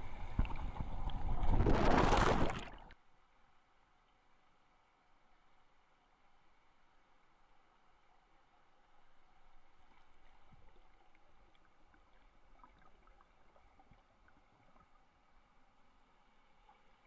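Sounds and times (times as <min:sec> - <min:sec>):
soft underwater hiss: 0:00.0 - 0:17.0.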